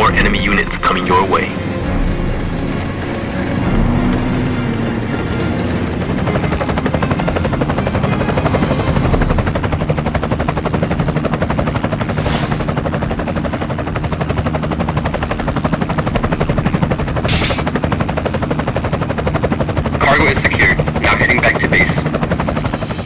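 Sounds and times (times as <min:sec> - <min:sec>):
helicopter rotor chopping: 0:00.0 - 0:23.0.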